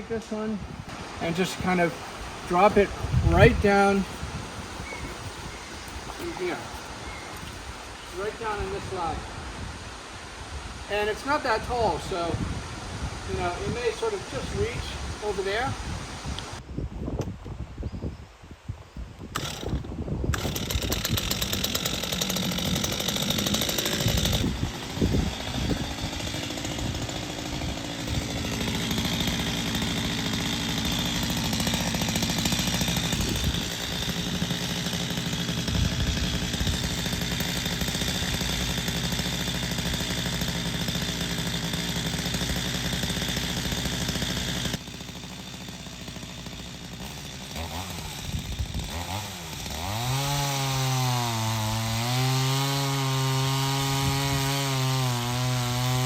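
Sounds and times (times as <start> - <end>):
chainsaw cutting wood: 0.9 - 9.2, 19.3 - 56.0.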